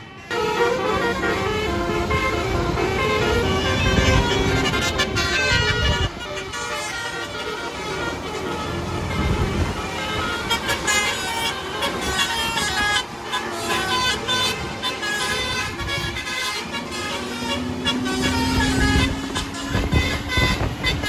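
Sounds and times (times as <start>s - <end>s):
engine and traffic noise: 0.0s - 21.0s
multi-tone bus horns playing: 0.0s - 21.0s.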